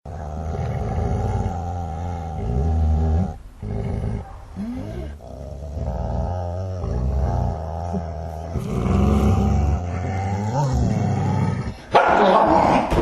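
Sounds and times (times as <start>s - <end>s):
dogs growling and snarling: 0.1s - 13.0s.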